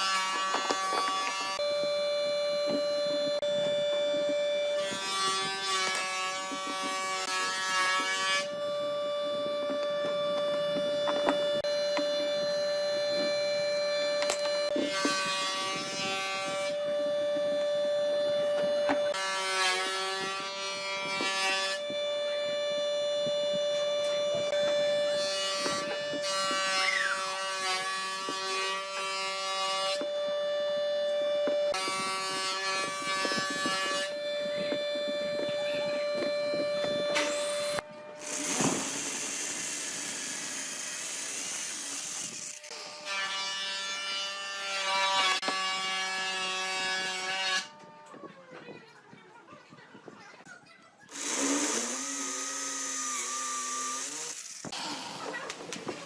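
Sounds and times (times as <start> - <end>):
power tool whining into wood: 0.0 - 48.2, 51.1 - 55.5.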